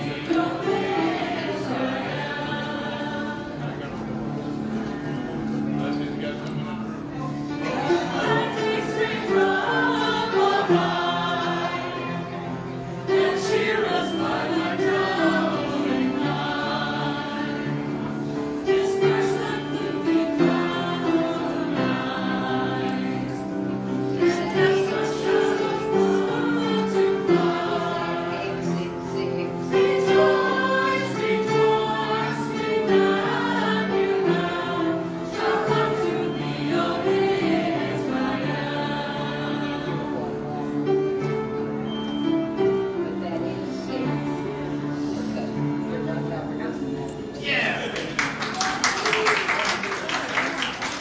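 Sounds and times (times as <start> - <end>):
group singing a carol: 0.0 - 47.8.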